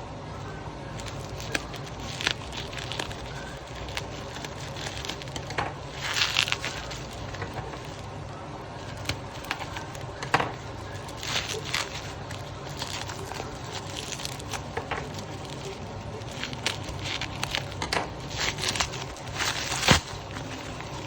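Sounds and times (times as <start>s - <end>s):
packaging crinkling and rustling: 0.4s - 21.0s.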